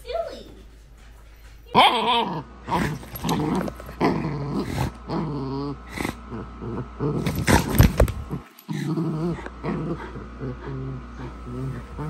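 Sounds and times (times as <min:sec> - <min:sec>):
puppy growling: 0:01.8 - 0:12.0.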